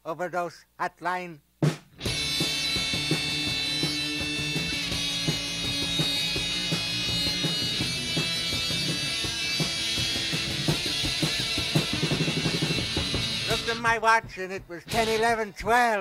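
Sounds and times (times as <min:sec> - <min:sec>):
rock guitar and drums: 0:01.6 - 0:16.0.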